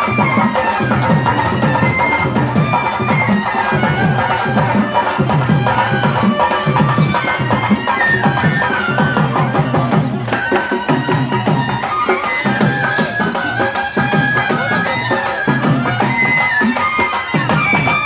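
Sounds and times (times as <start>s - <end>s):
steady drum beat: 0.0s - 18.0s.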